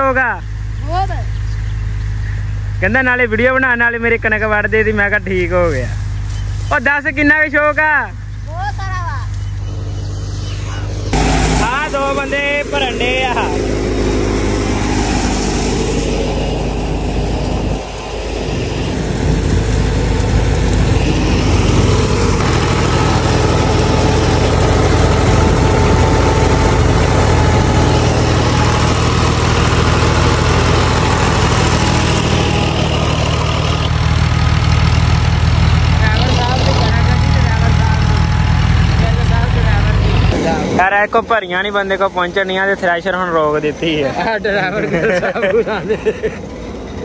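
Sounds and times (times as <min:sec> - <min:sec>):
tractor engine drone: 0:00.0 - 0:47.0.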